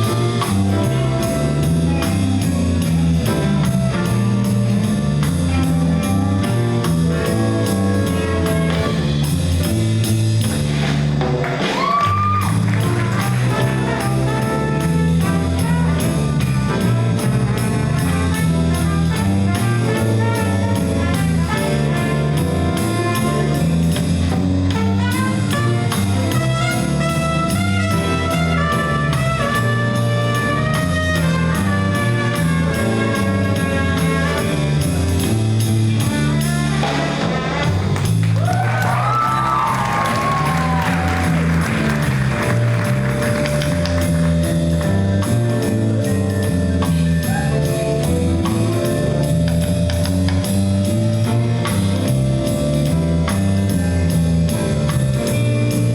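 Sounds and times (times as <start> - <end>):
big band jazz: 0.0 - 55.9.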